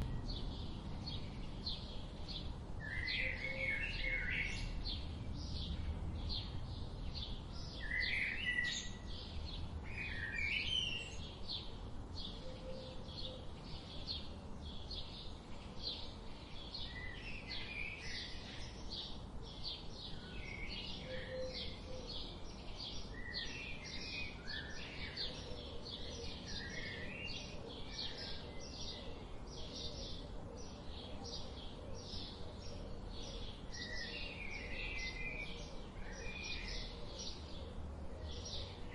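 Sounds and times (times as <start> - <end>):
small birds chirping: 0.0 - 38.9
soft steady hiss: 0.0 - 38.9.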